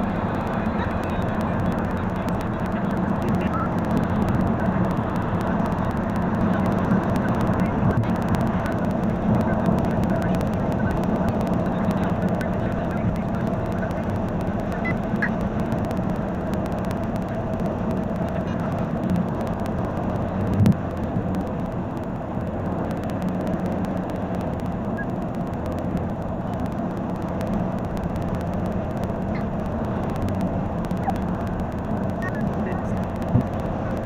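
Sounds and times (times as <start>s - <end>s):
car cabin road and engine noise: 0.0s - 34.0s
faint ticks: 0.0s - 34.0s.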